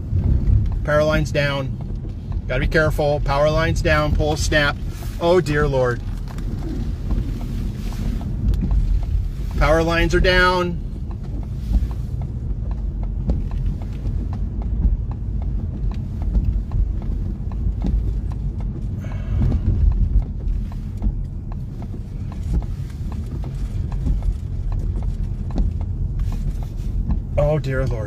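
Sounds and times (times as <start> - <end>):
vehicle road rumble: 0.0 - 28.0.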